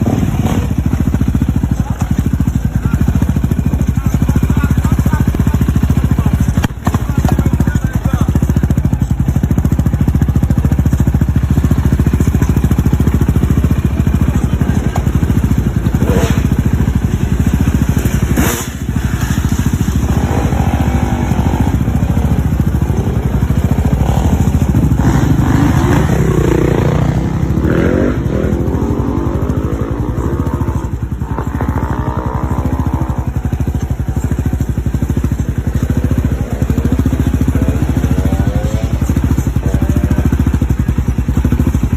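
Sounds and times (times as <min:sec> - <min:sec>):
quad bike engine revving: 0:00.0 - 0:41.9.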